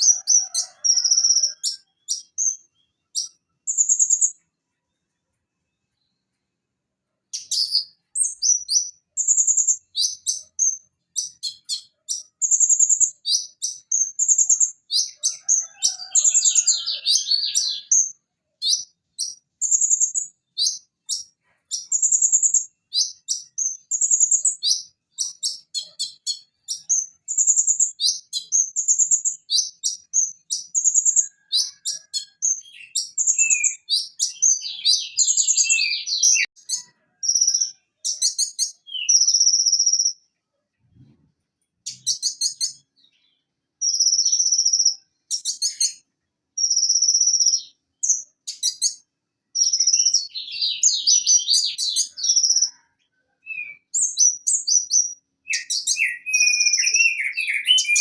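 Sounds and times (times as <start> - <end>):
bird singing high chirps and trills: 0.0 - 6.5, 7.2 - 41.2, 41.8 - 58.0.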